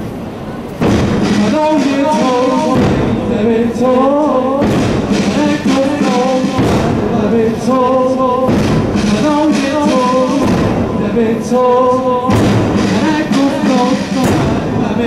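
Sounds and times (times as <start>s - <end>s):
heavy rhythmic thumps: 0.8s - 15.0s
person chanting a lament: 1.3s - 15.0s.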